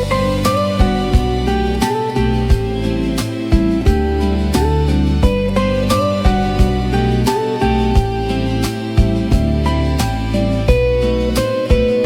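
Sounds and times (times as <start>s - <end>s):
plucked instrumental music: 0.0s - 12.0s.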